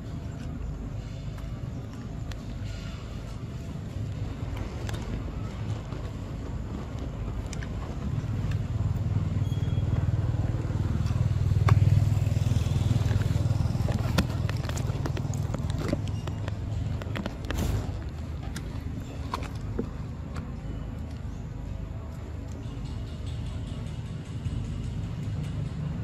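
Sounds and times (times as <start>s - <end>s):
motor vehicle engine rumble: 0.0s - 26.0s.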